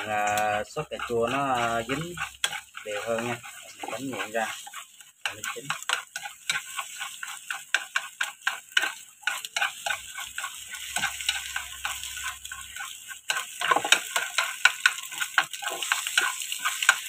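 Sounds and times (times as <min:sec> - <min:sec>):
chopsticks scraping a frying pan: 0:00.0 - 0:17.0
light sizzle: 0:00.0 - 0:17.0.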